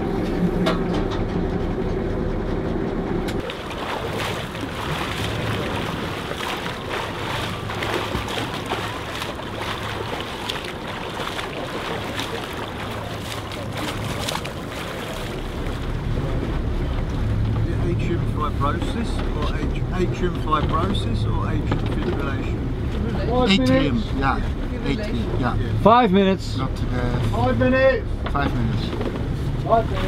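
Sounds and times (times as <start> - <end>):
boat engine humming: 0.0 - 30.0
water splashing along hull: 0.0 - 30.0.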